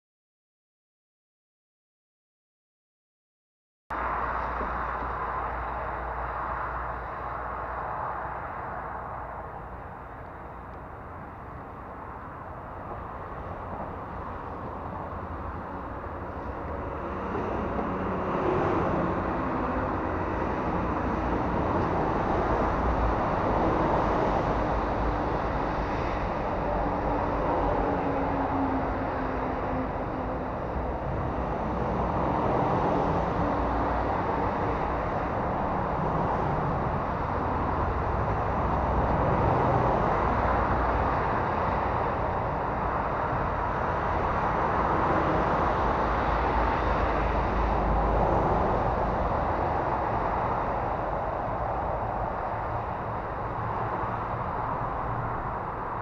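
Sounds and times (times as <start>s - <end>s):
truck engine and road noise: 3.9s - 56.0s.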